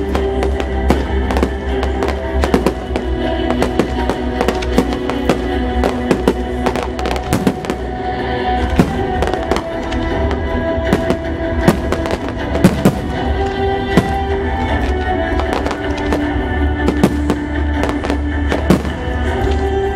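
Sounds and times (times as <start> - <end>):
fireworks bursting and crackling: 0.0 - 19.9
music of held notes: 0.0 - 19.9.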